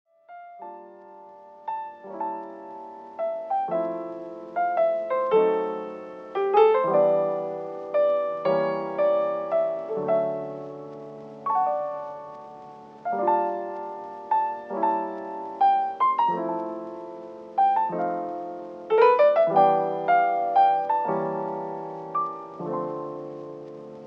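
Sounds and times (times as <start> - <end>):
slow gentle piano music: 0.1 - 24.0.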